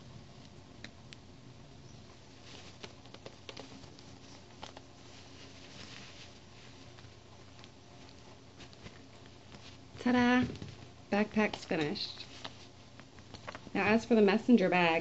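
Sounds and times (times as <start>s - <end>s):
fabric rustling: 2.0s - 14.3s.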